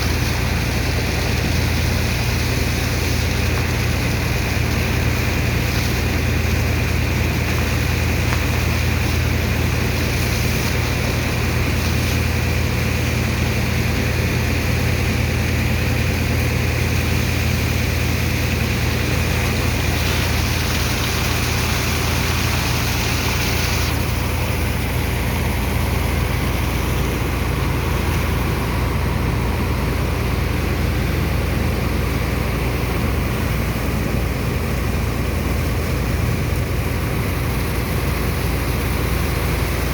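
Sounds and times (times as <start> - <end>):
heavy engine and pump droning: 0.0 - 39.9.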